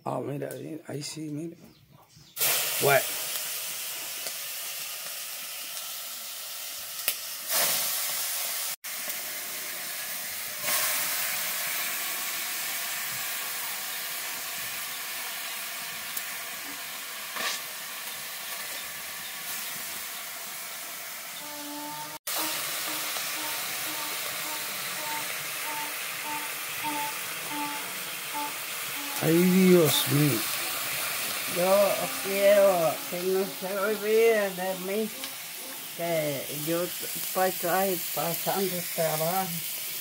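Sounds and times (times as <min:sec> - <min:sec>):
food sizzling in a pot: 0:02.4 - 0:40.0.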